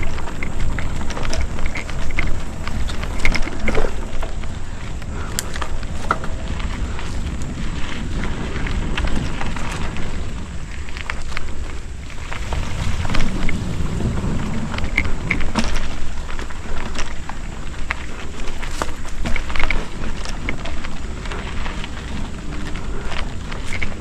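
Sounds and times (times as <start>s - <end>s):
bike clicks and rattles: 0.0s - 24.0s
bike tyre noise on dirt: 0.0s - 24.0s
wind on microphone: 0.0s - 24.0s.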